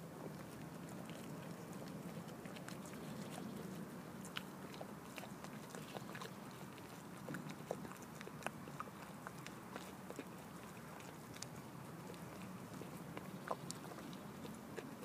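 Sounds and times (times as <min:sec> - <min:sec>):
goat chewing hard bread: 0:00.0 - 0:15.0.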